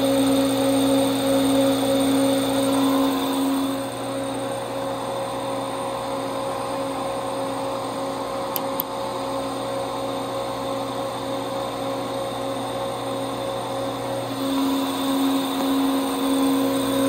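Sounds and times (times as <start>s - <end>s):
hard disk drive whirring: 0.0s - 17.0s.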